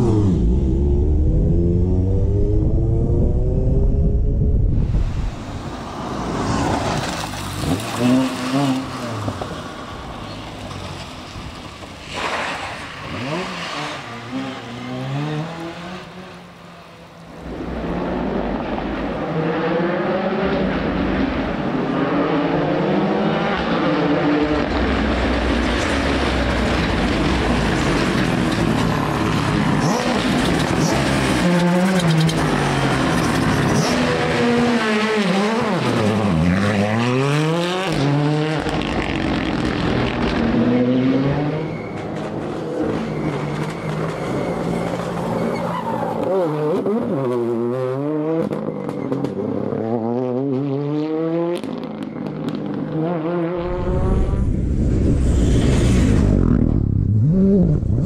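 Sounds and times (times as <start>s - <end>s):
rally car engines revving: 5.5s - 58.0s.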